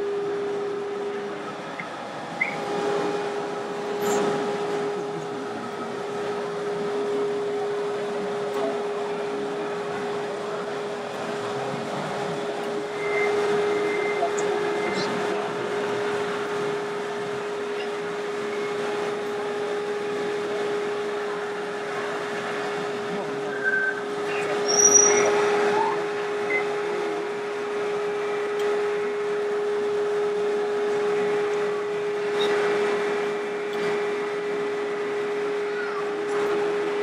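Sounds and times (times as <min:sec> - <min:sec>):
indistinct crowd chatter: 0:00.0 - 0:37.0.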